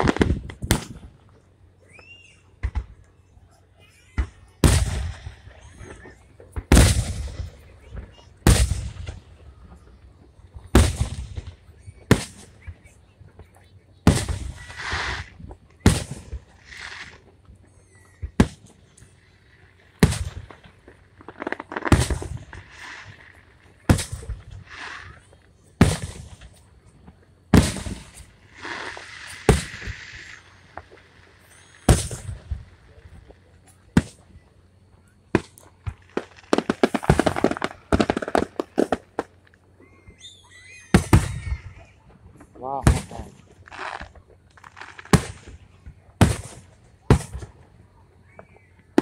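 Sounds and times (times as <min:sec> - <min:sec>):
firework shells booming: 0:00.0 - 0:01.4, 0:04.1 - 0:40.2, 0:40.8 - 0:49.0
firework bangs and crackles: 0:00.0 - 0:49.0.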